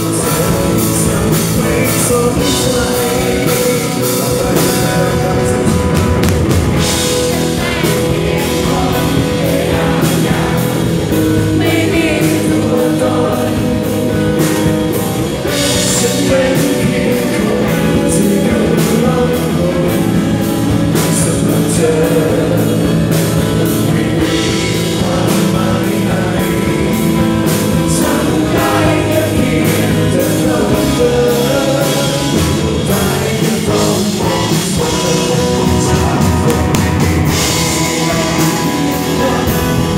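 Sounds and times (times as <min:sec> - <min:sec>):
rock band playing loud: 0:00.0 - 0:39.9
singer singing into microphone: 0:00.0 - 0:39.9.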